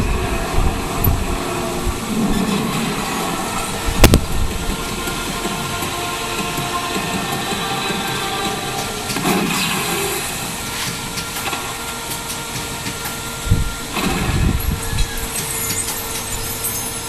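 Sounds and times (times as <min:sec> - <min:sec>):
mechanical background noise: 0:00.0 - 0:17.0.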